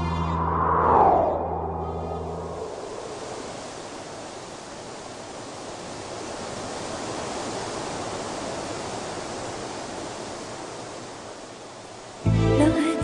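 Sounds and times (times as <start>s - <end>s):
steady rushing wind noise: 0.0s - 12.3s.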